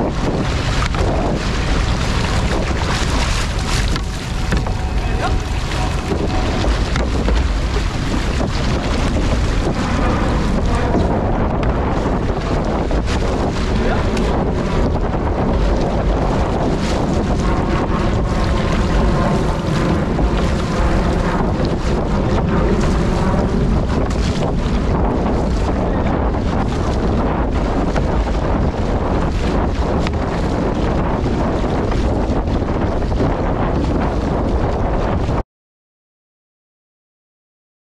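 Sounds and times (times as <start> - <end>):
paddle splashes: 0.0 - 34.8
water rushing past hull: 0.0 - 35.4
wind buffeting microphone: 0.0 - 35.4.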